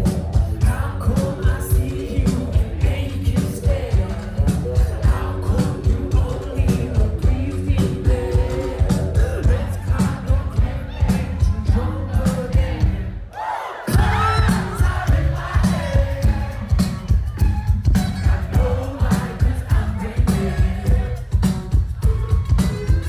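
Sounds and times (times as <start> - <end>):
person singing: 0.0 - 13.0, 13.9 - 23.0
live band playing: 0.0 - 13.1, 13.9 - 23.0
bass and drum groove: 0.0 - 13.3, 13.9 - 23.0.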